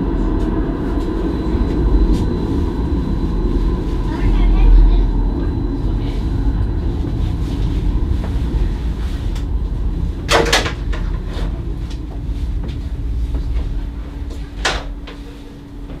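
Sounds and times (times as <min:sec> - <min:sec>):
tram low rumble: 0:00.0 - 0:16.0.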